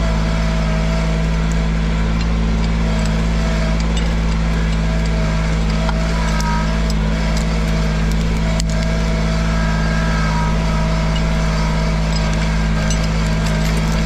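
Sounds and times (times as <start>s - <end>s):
garden tractor engine running: 0.0s - 14.0s.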